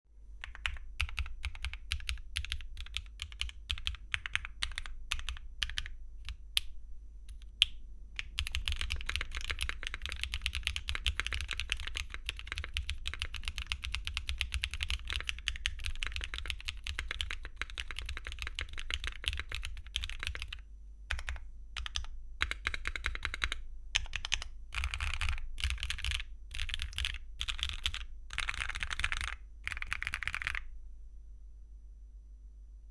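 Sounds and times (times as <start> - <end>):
mechanical keyboard typing: 0.4 - 6.7, 7.3 - 30.7.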